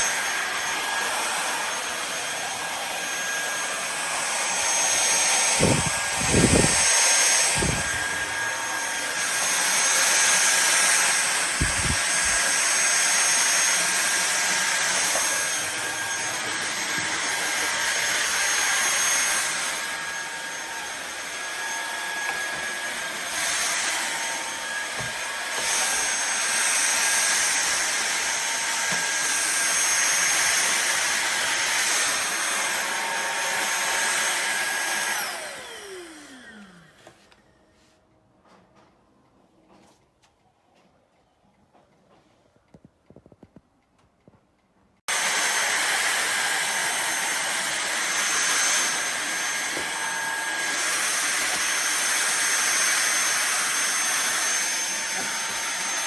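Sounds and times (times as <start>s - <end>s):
vacuum cleaner motor whine: 0.0s - 37.6s, 45.1s - 56.0s.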